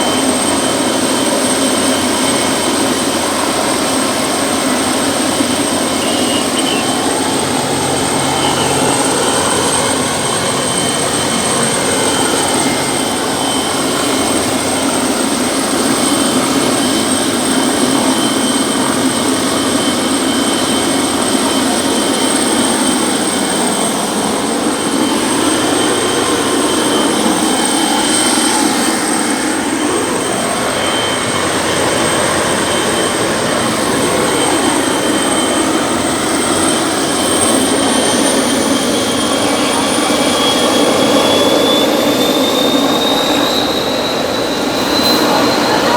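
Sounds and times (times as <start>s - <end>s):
helicopter engine whine: 0.0s - 45.9s
helicopter rotor and turbine noise: 0.0s - 45.9s.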